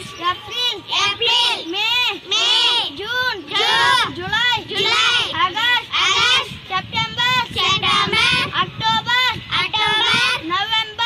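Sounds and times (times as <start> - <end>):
child chanting in sing-song voice: 0.0 - 11.0.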